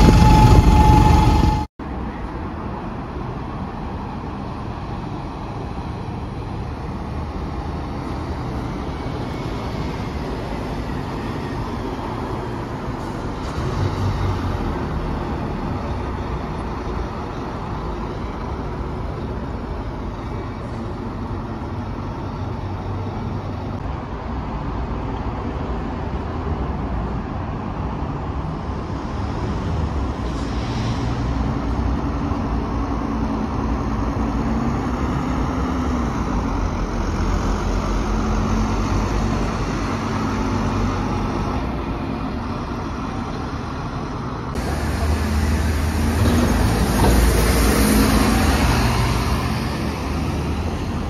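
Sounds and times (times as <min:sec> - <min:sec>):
bus engine pulling away: 0:00.0 - 0:51.0
diesel buses driving past: 0:00.0 - 0:51.0.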